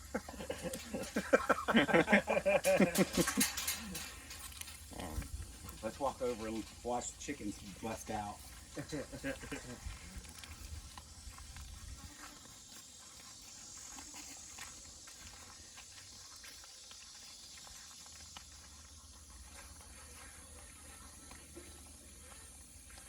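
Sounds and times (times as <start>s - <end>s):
footsteps of people walking: 0.0s - 23.0s
high insect hiss: 0.0s - 23.0s.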